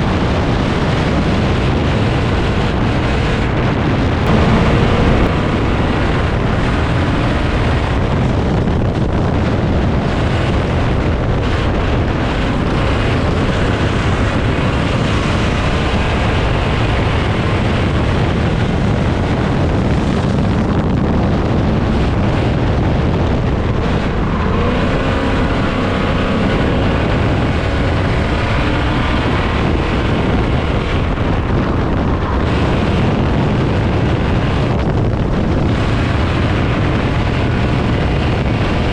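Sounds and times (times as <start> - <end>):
race car engine running hard: 0.0 - 38.9
wind buffeting microphone: 0.0 - 38.9.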